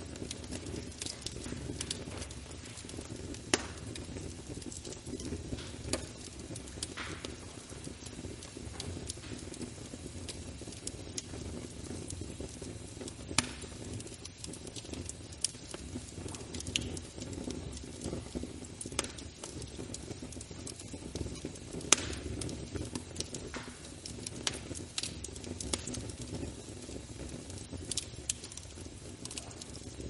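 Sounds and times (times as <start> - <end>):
fire crackling and popping: 0.0 - 30.0
fire rumbling: 0.0 - 30.0
wood fire snapping: 0.0 - 30.0.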